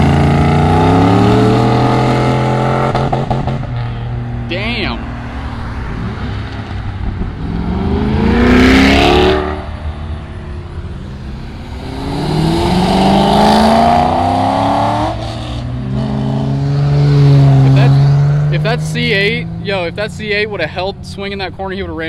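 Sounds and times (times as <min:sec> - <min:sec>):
car accelerating past: 0:00.0 - 0:19.6.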